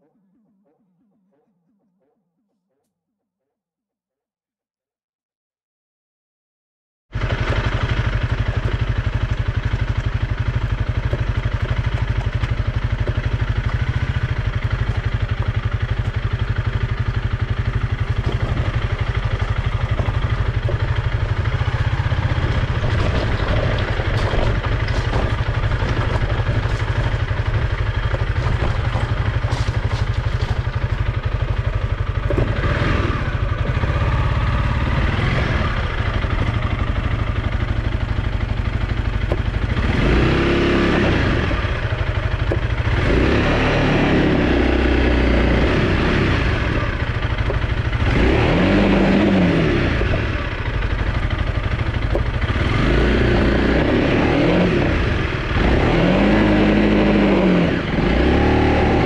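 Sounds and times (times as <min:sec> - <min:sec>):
motorcycle engine running: 0:07.1 - 0:59.0.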